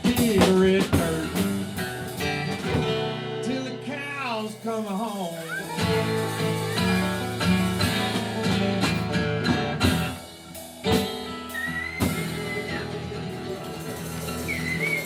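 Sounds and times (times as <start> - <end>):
drum kit hits: 0.0 - 3.4, 5.0 - 15.0
electric guitar strummed chords: 0.0 - 5.1, 5.8 - 14.5.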